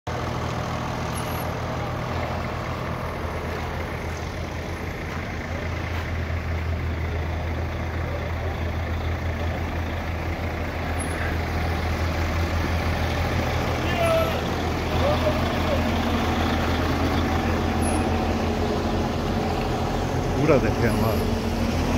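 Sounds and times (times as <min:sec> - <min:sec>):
diesel machinery humming: 0:00.1 - 0:21.9.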